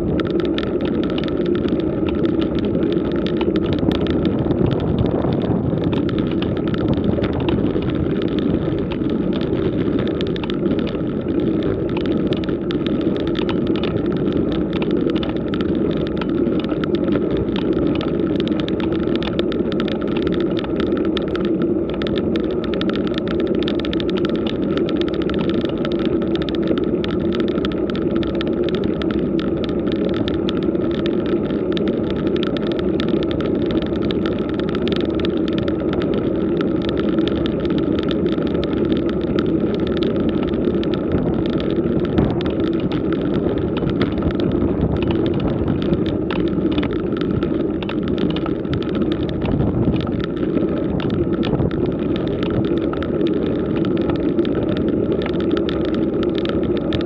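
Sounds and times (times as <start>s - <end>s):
bike tyres rumbling on asphalt: 0.0s - 57.0s
small rattling ticks: 0.0s - 57.0s.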